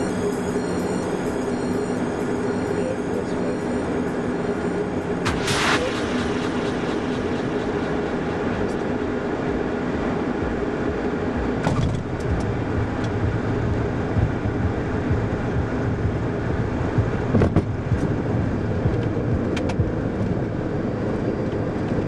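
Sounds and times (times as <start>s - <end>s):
turbofan engines running: 0.0s - 22.0s
jet cockpit airflow: 1.4s - 19.9s.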